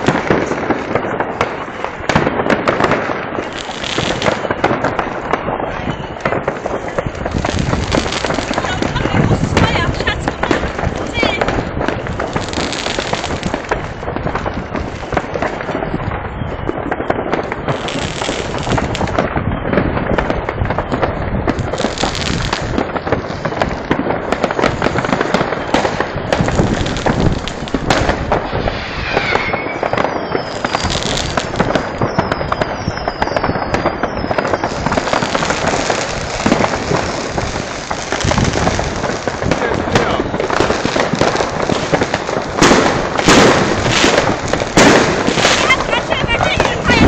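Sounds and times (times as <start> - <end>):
fireworks crackling and banging: 0.0 - 47.0
firework whistles falling: 2.8 - 20.0, 24.6 - 47.0.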